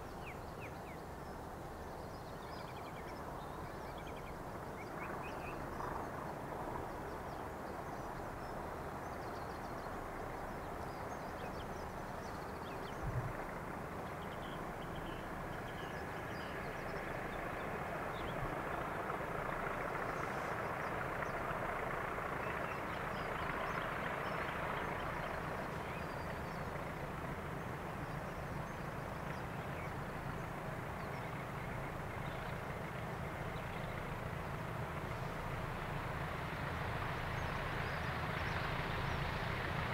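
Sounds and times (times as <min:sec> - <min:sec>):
distant diesel locomotives droning: 0:00.0 - 0:39.9.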